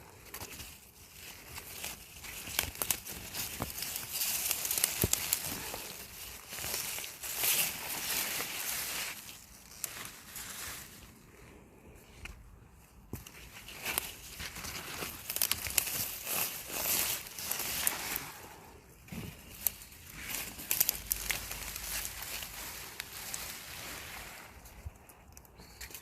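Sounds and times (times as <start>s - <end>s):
rustling and crinkling: 0.0s - 26.0s.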